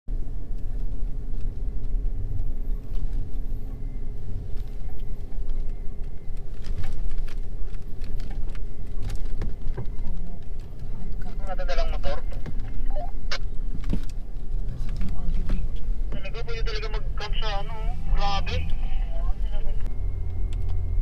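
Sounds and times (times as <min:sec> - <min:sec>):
vehicle driving rumble: 0:00.1 - 0:21.0.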